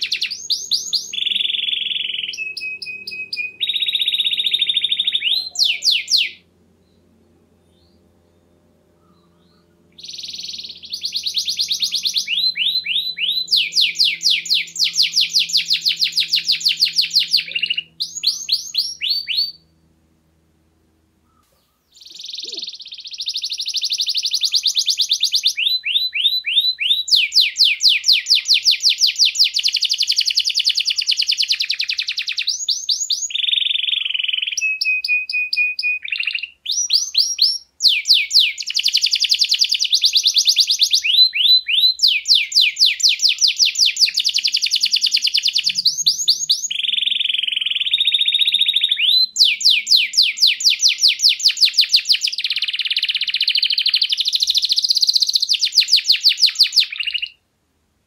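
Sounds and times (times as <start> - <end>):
canary singing trills: 0.0 - 19.9, 21.2 - 57.4.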